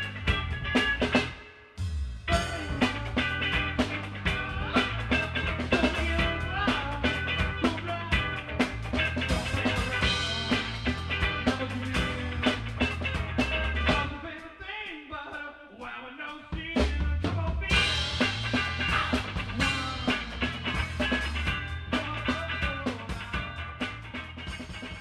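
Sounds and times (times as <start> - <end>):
steady drum beat: 0.0 - 14.2, 16.5 - 25.0.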